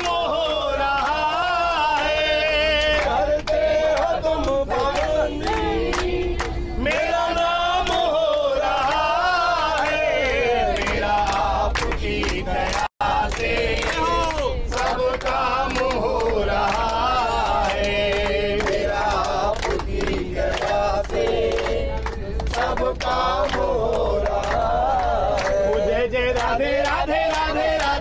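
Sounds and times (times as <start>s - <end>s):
group singing devotional song: 0.0s - 28.0s
people clapping: 0.0s - 28.0s.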